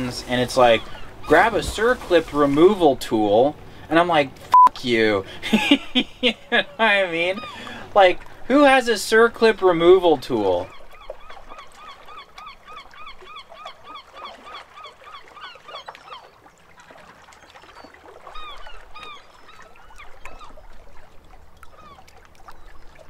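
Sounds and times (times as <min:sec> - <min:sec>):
birds calling: 0:00.0 - 0:04.2, 0:05.0 - 0:16.7, 0:17.3 - 0:23.0.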